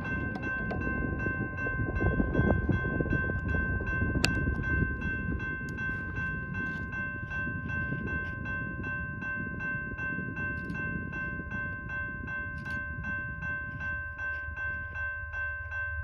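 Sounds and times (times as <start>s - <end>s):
railroad crossing bell ringing: 0.0s - 16.0s
steady low rumble: 0.0s - 16.0s.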